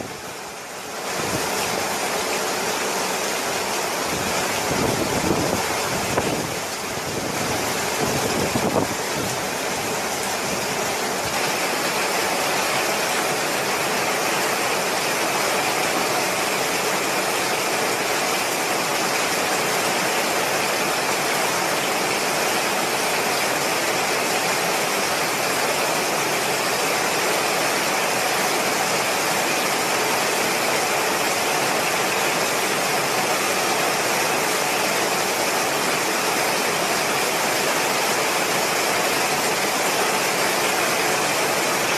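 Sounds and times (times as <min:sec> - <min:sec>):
heavy rain and wind: 0:00.0 - 0:41.9.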